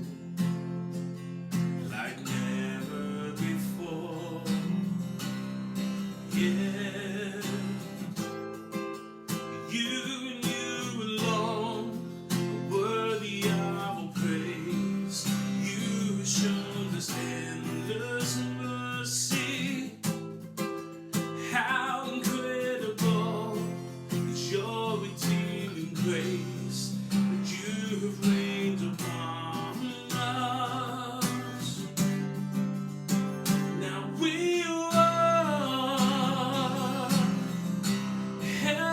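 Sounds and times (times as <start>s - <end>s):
strummed acoustic guitar music: 0.0s - 38.9s.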